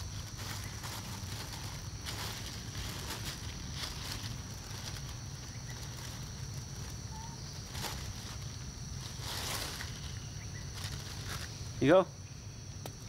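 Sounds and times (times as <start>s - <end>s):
soft rustles: 0.0s - 11.6s
high-pitched insect drone: 0.0s - 13.0s.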